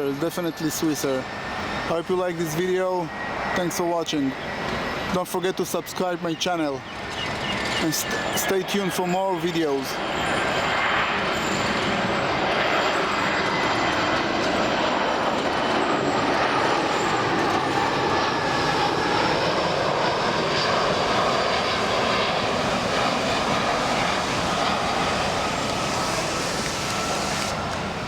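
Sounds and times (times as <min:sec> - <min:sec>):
faint engine whine: 0:00.0 - 0:28.0
jet engines rushing: 0:00.0 - 0:28.0.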